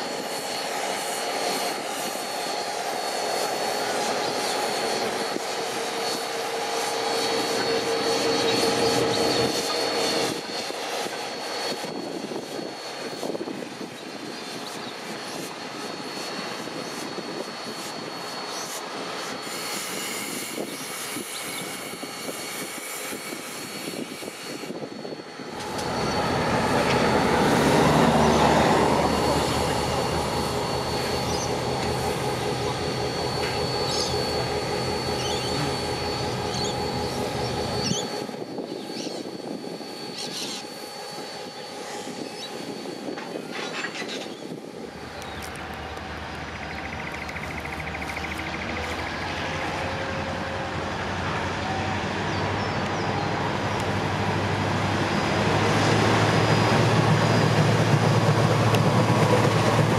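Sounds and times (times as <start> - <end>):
diesel locomotive engine rumble: 0.0 - 59.9
steam locomotive mechanical drone: 0.0 - 59.9.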